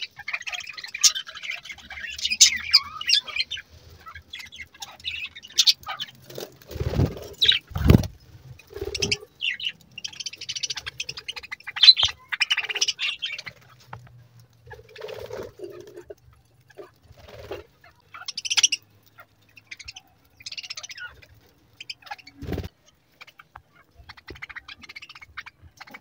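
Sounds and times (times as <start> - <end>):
budgerigars chirping: 0.0 - 6.1, 6.8 - 8.1, 8.7 - 13.7, 16.8 - 26.0.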